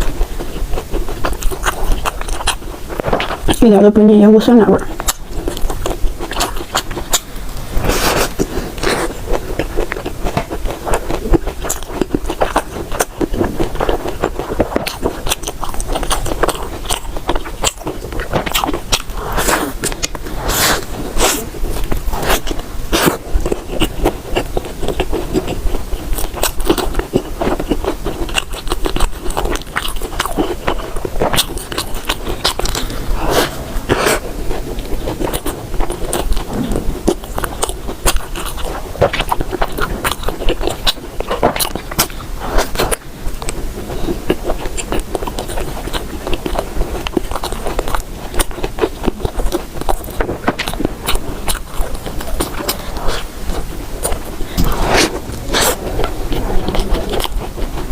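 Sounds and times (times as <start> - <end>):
person biting and chewing food: 0.0 - 3.7, 4.8 - 57.9
mouth clicks and crunches: 0.0 - 57.9.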